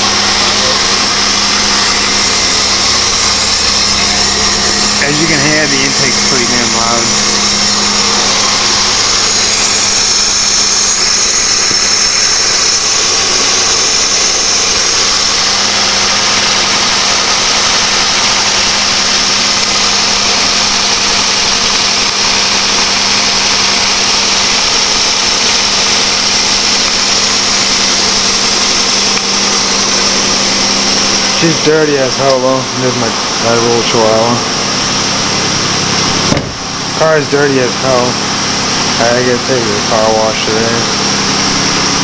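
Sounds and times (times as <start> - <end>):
air intake hiss: 0.0 - 42.0
car engine idling: 0.0 - 42.0.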